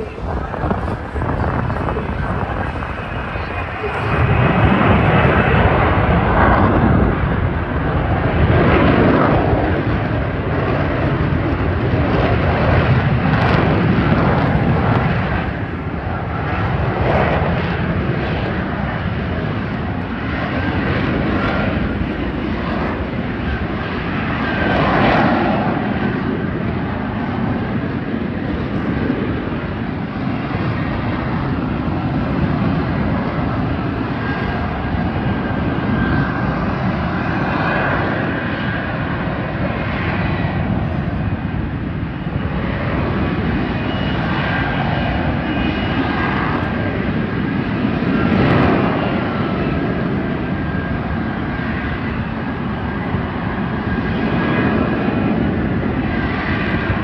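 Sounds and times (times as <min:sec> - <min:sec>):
jet aircraft roar flying past: 0:00.0 - 0:57.0.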